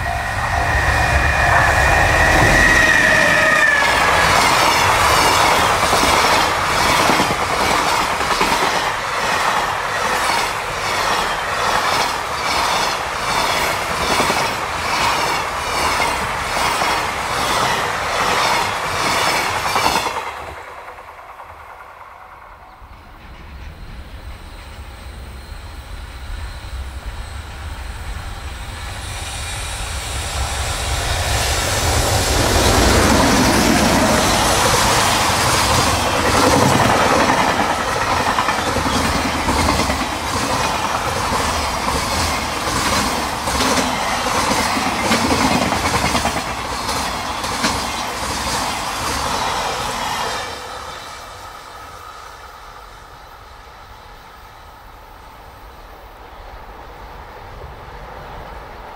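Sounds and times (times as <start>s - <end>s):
train wheels clickety-clack: 0.0s - 25.6s, 26.4s - 52.0s
approaching train rumble: 0.0s - 58.9s.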